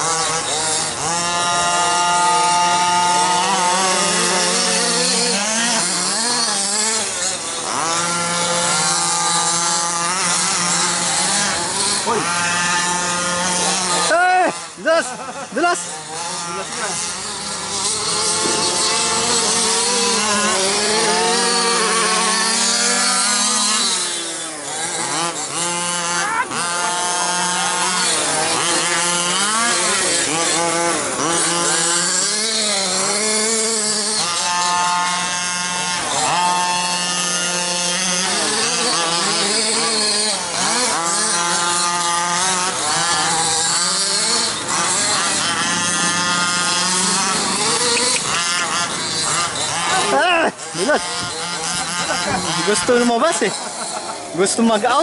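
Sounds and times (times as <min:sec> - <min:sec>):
small two-stroke engines revving: 0:00.0 - 0:55.0.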